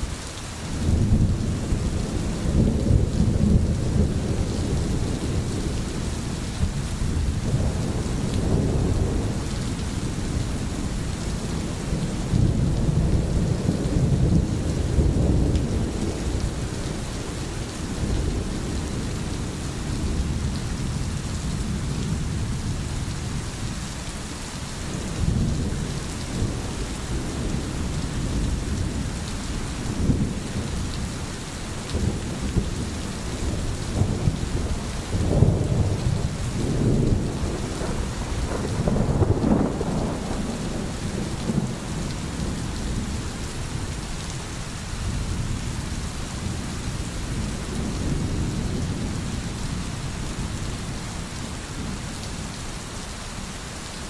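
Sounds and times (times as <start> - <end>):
rain hissing: 0.0 - 54.0
low rolling thunder: 0.7 - 23.5, 24.8 - 44.4, 45.0 - 52.2.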